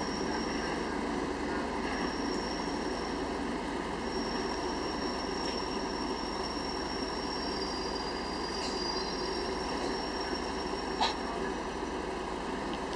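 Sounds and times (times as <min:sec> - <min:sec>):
faint high whine: 0:00.0 - 0:12.7
train running rumble: 0:00.0 - 0:12.9.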